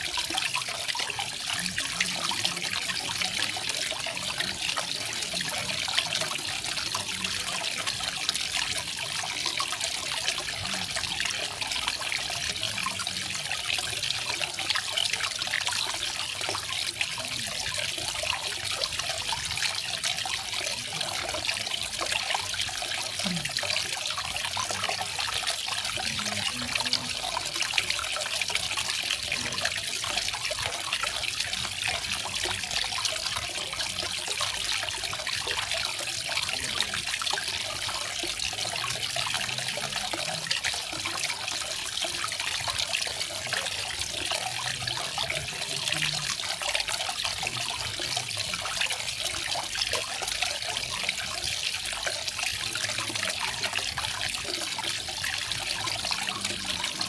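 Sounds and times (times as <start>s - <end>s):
waterfall splashing and trickling: 0.0s - 57.0s.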